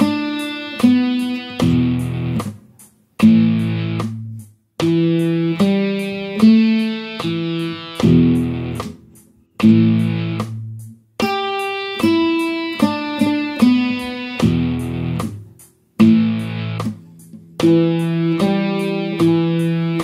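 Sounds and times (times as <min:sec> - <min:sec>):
guitar playing rock riff: 0:00.0 - 0:20.0
ticking beat: 0:00.0 - 0:20.0.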